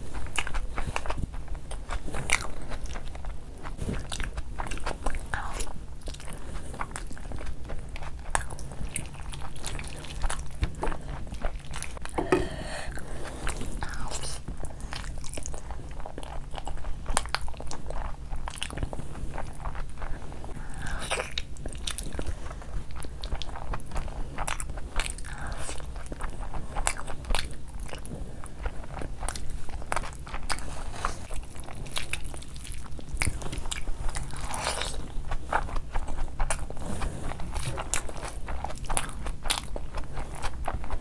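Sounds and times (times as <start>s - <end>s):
person biting and chewing meat: 0.0s - 41.0s.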